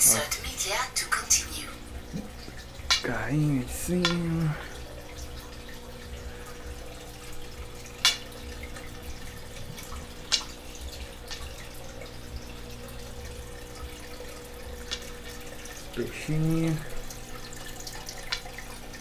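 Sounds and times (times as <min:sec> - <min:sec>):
aquarium filter trickling: 0:00.0 - 0:19.0.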